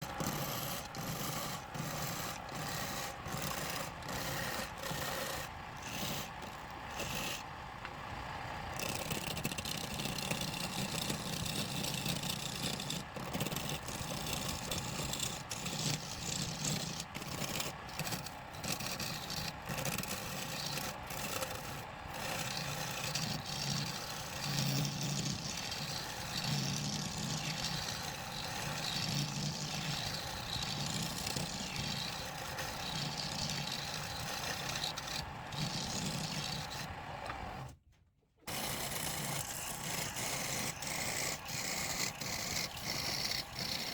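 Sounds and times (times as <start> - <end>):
turning tool scraping wood: 0.0 - 7.6, 8.7 - 37.8, 38.5 - 43.9
wood lathe running: 0.0 - 37.7, 38.5 - 43.9.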